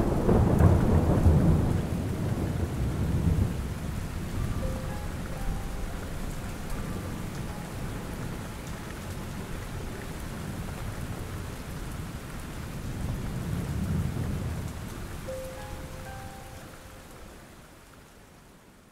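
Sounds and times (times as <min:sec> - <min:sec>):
thunder rumble: 0:00.0 - 0:16.0
steady rain falling: 0:00.0 - 0:18.9.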